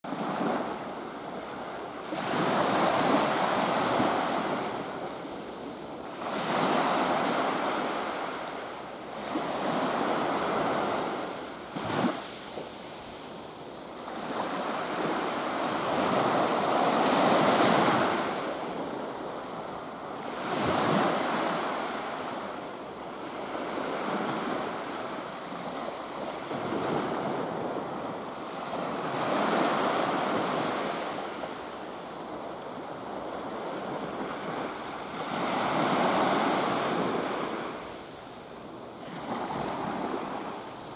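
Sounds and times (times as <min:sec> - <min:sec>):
small waves washing onto beach: 0:00.1 - 0:40.9.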